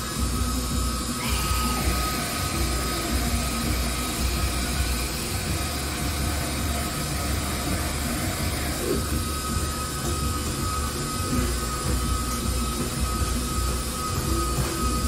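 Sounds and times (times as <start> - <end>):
faint steady whine: 0.0 - 15.0
liquid nitrogen hissing from nozzle: 0.0 - 15.0.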